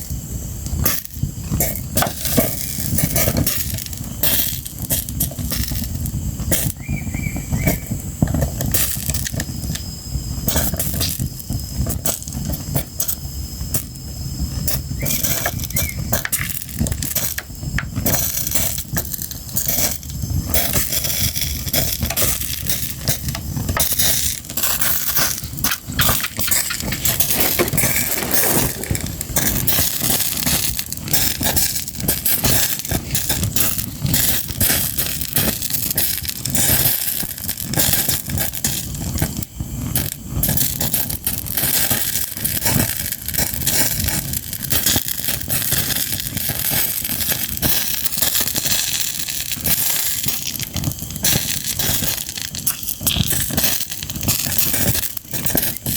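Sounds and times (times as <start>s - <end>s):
fire crackling and popping: 0.0s - 55.9s.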